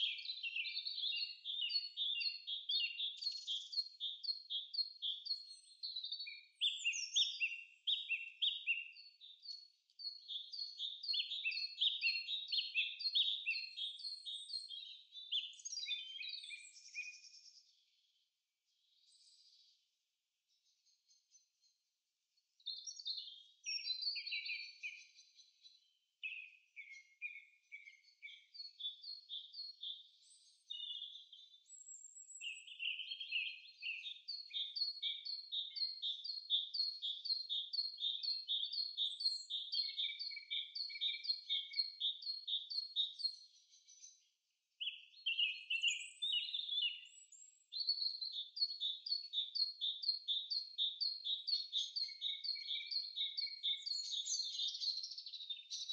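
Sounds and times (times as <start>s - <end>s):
small birds singing: 0.0s - 55.9s.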